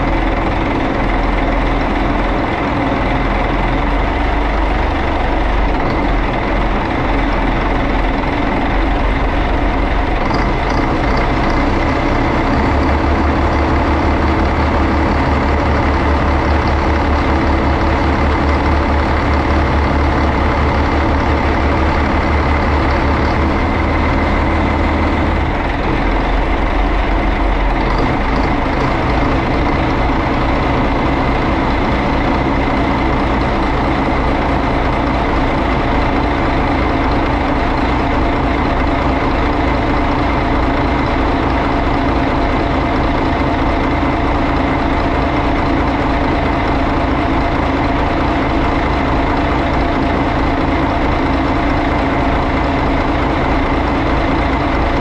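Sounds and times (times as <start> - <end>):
marine diesel engine running: 0.0 - 55.0
turbocharger whine: 0.0 - 55.0.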